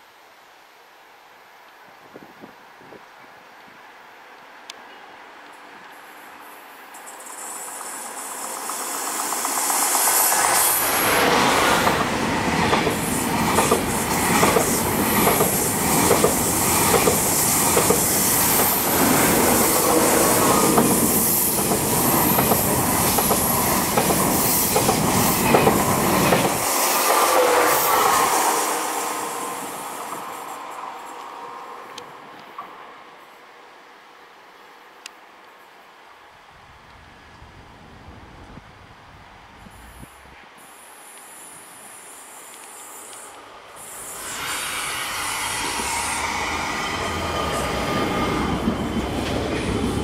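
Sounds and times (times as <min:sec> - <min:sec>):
high-speed train passing: 0:03.7 - 0:35.0, 0:36.4 - 0:50.0.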